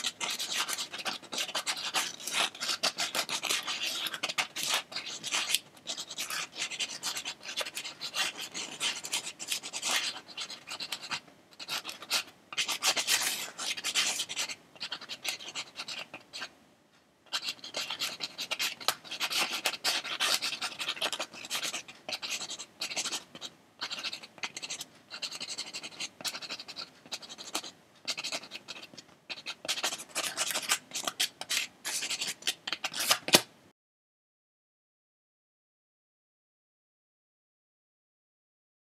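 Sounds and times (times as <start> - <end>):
pencil strokes scratching on paper: 0.0 - 16.5, 17.3 - 33.3.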